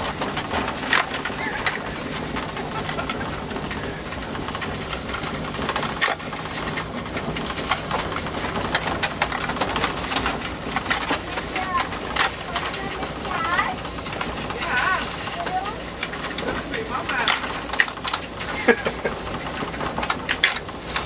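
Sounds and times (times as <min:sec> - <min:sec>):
van driving over snowy road: 0:00.0 - 0:21.0.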